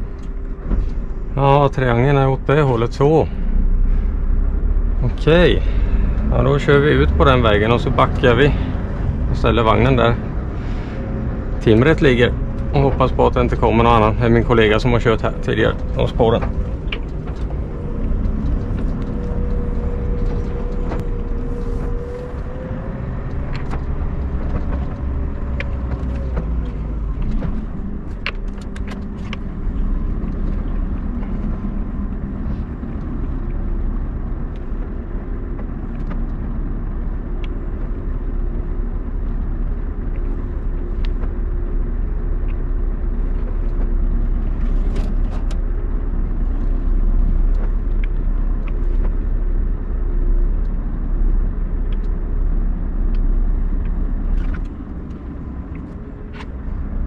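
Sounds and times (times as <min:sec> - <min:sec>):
truck diesel engine rumbling: 0:00.0 - 0:57.0.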